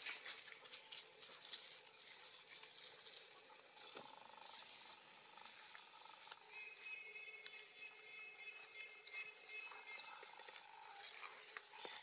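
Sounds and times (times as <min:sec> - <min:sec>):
rustling of dry leaves and twigs: 0:00.0 - 0:12.0.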